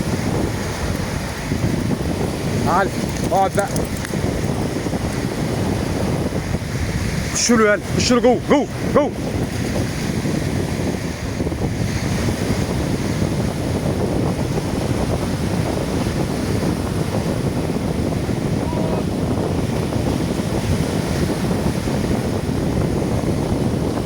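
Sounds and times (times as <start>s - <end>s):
sea surf washing: 0.0s - 24.0s
wind buffeting microphone: 0.0s - 24.0s.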